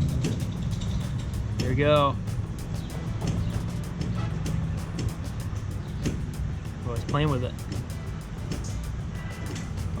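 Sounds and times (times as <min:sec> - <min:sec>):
music playing: 0:00.0 - 0:10.0.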